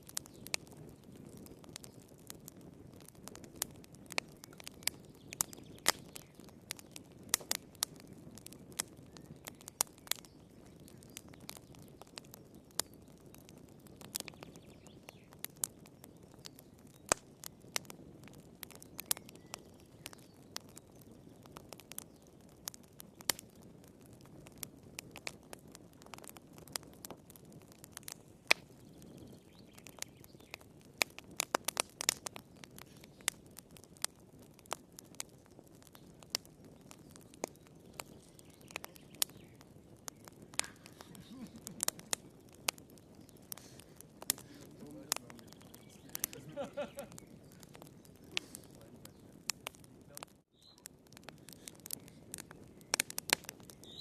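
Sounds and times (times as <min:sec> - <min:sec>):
rumble of flames: 0:00.0 - 0:54.0
wood fire crackling: 0:00.0 - 0:54.0.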